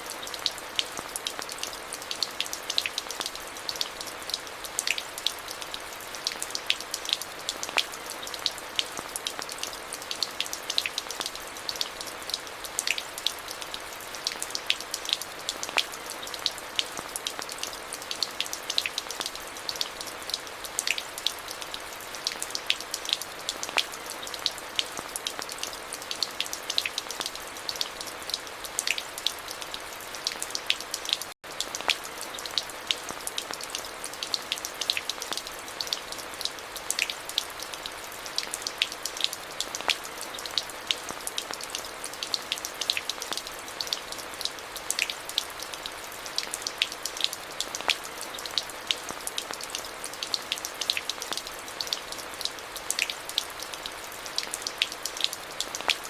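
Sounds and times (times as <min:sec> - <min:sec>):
steady rain with ticking drops: 0:00.0 - 0:56.0.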